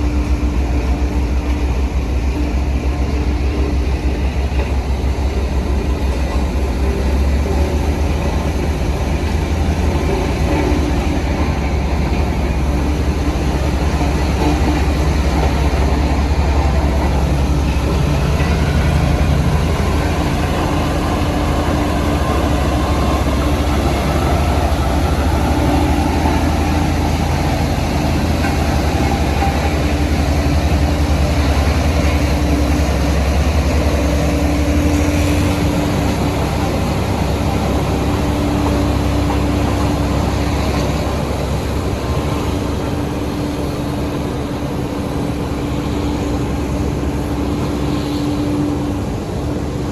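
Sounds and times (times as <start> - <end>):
diesel machinery rumbling: 0.0 - 49.9.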